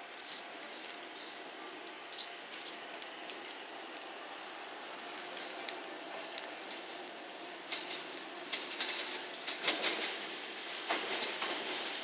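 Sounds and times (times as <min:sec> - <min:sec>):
distant electric train running: 0:00.0 - 0:12.0.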